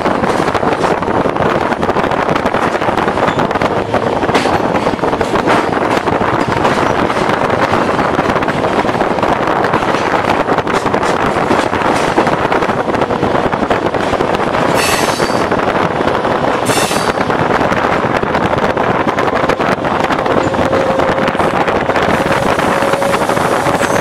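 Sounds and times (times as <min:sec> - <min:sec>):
train running on rails: 0:00.0 - 0:24.0.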